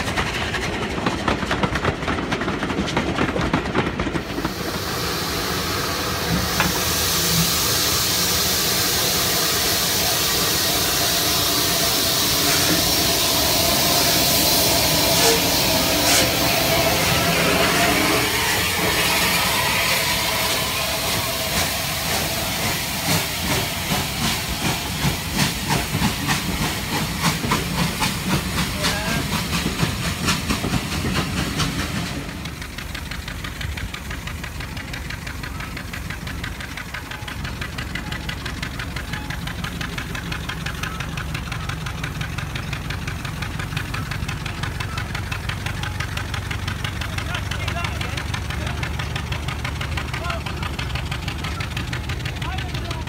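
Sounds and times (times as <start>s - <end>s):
small locomotive engine knocking: 0.0s - 53.0s
steam locomotive hiss and exhaust beats: 0.0s - 53.0s.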